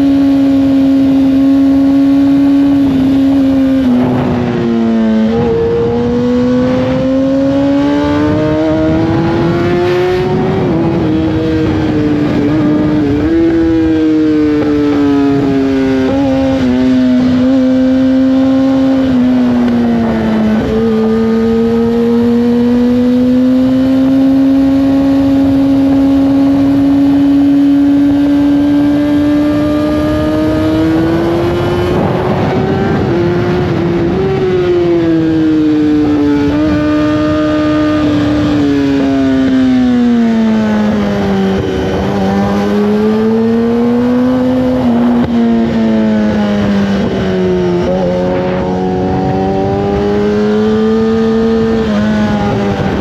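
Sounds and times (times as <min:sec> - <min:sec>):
motorcycle engine at speed: 0:00.0 - 0:53.0
wind noise: 0:00.0 - 0:53.0.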